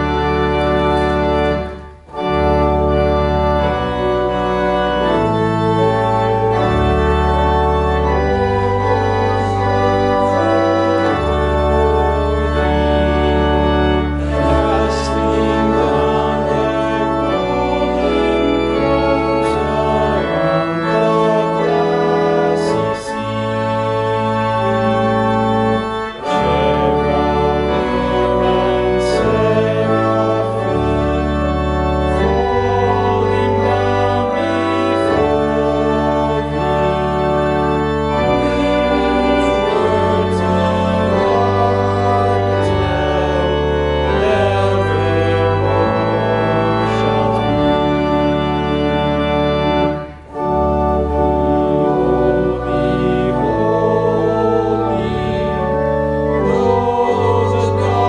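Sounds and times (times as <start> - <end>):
pipe organ chords: 0.0 - 58.0.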